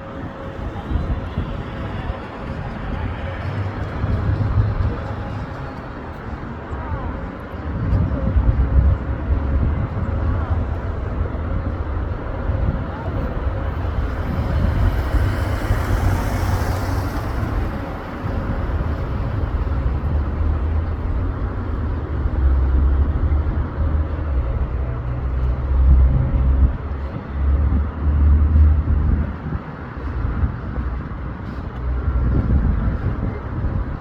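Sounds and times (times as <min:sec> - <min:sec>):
vehicle rumble: 0:00.0 - 0:34.0.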